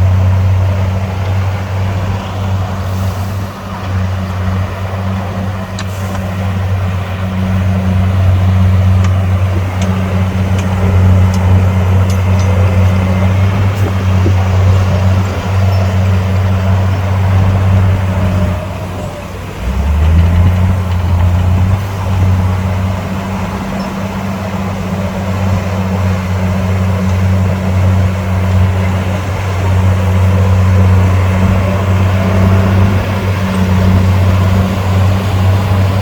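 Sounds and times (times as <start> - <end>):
heavy diesel engine droning: 0.0 - 36.0.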